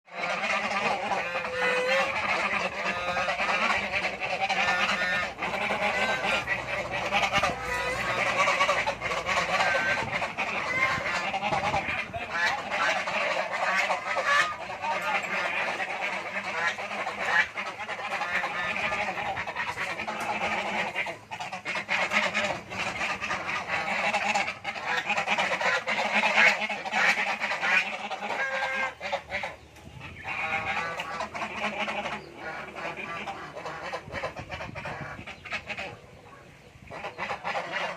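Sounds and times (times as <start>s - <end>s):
geese honking: 0.1s - 37.9s.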